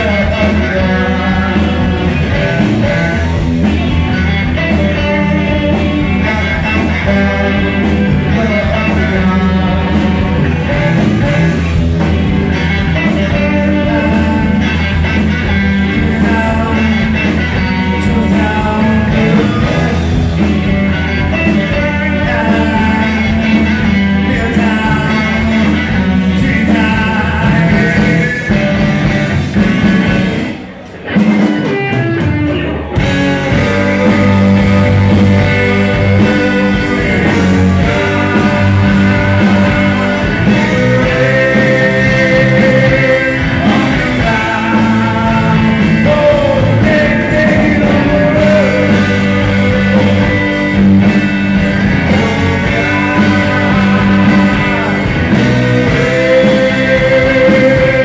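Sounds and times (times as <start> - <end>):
person singing: 0.0 - 30.2, 31.5 - 58.0
drums: 0.0 - 58.0
electric guitars: 0.0 - 58.0.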